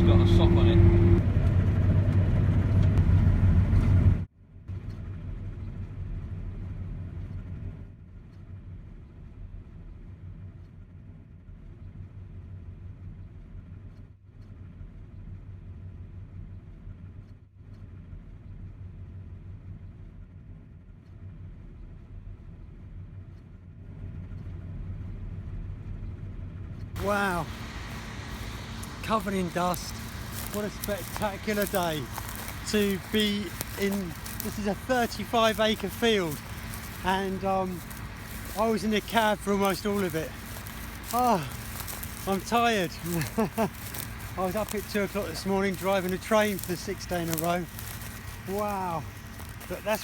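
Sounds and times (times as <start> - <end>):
combine harvester engine drone: 0.0 - 50.0.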